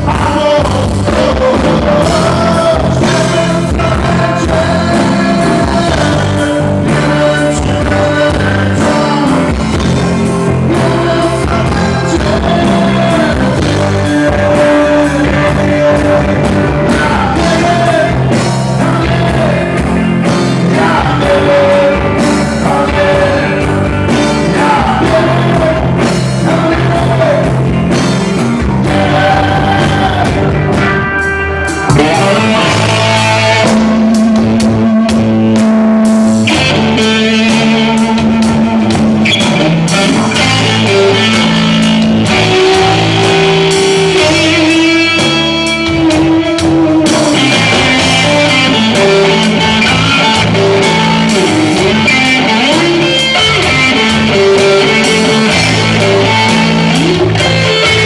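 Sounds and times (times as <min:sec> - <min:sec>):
man singing: 0:00.0 - 0:35.7, 0:36.3 - 0:58.0
drums: 0:00.0 - 0:58.0
electric guitars: 0:00.0 - 0:58.0.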